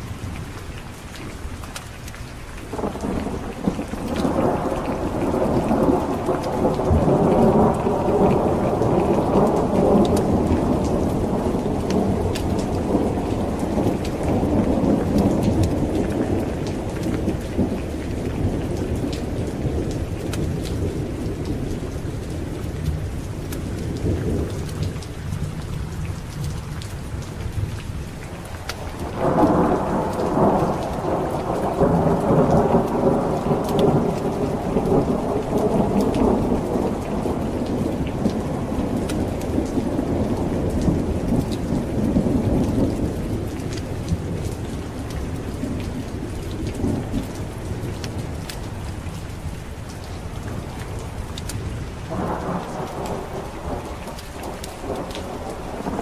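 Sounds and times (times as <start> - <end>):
heavy rain: 0.0 - 56.0
thunder rumbling: 2.7 - 56.0.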